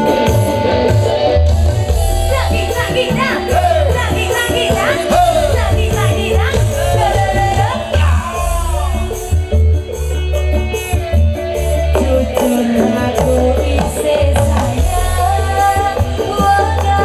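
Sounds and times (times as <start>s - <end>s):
hand drums rhythm: 0.0s - 17.0s
heavy bass line: 0.0s - 17.0s
live band playing: 0.0s - 17.0s.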